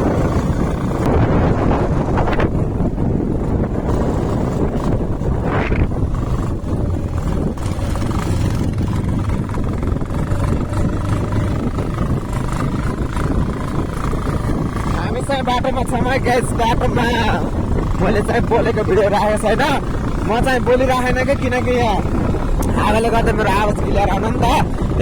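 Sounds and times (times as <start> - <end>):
motorcycle engine: 0.0 - 25.0
road noise: 0.0 - 25.0
wind rushing over microphone: 0.0 - 25.0.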